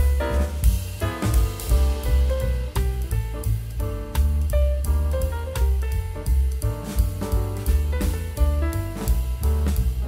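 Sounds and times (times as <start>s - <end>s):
bass: 0.0s - 10.0s
drum kit beat: 0.0s - 10.0s.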